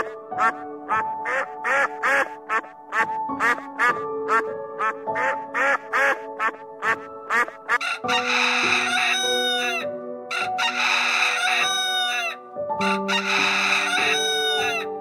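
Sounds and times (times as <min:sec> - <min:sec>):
ducks calling: 0:00.0 - 0:14.9
background music with held notes: 0:00.0 - 0:15.0.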